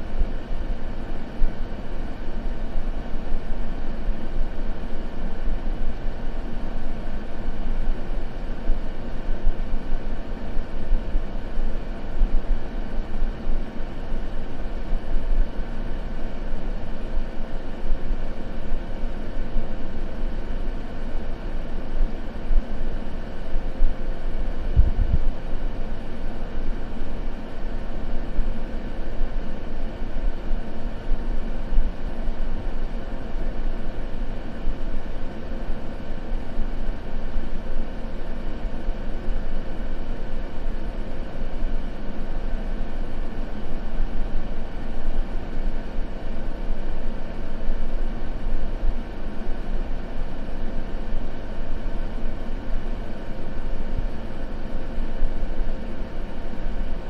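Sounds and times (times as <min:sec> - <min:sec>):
low white noise rush: 0:00.0 - 0:57.0.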